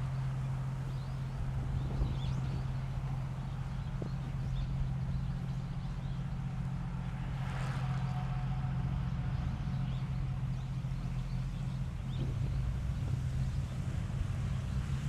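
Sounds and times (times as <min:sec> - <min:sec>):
wind buffeting microphone: 0:00.0 - 0:07.2, 0:08.8 - 0:15.0.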